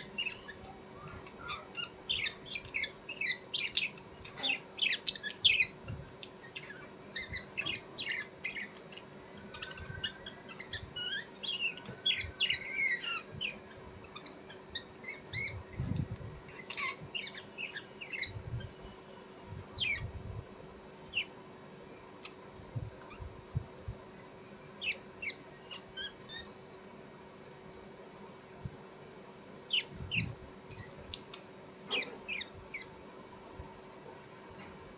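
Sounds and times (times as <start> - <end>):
small birds chirping and squawking: 0.0 - 27.0, 28.2 - 34.7.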